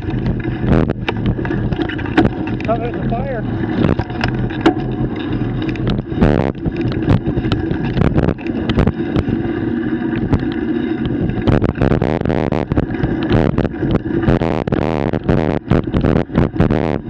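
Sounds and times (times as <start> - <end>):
bicycle rattling over bumps: 0.0 - 17.0
steady low drone: 0.0 - 17.0
wind buffeting microphone: 0.0 - 17.0.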